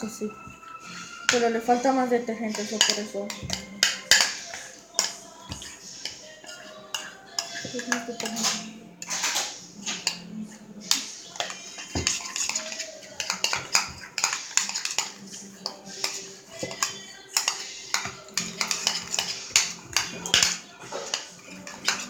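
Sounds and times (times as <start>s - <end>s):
utensil clinking and scraping bowl: 0.0s - 22.0s.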